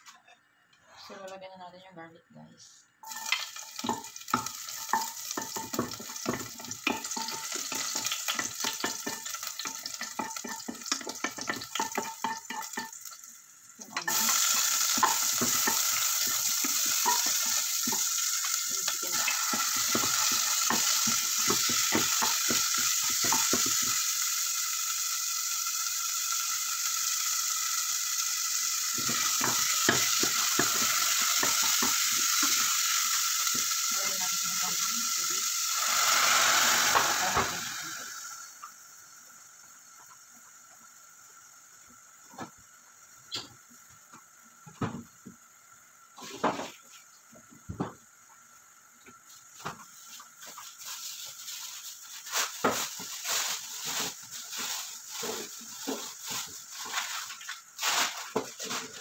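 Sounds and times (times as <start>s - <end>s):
loud sizzle of frying chicken: 3.0s - 59.0s.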